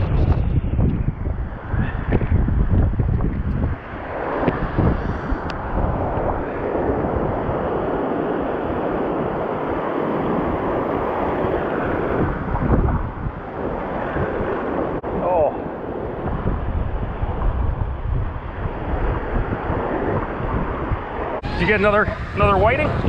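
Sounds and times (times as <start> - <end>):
wind buffeting microphone: 0.0 - 23.0
surf breaking on shore: 3.1 - 23.0.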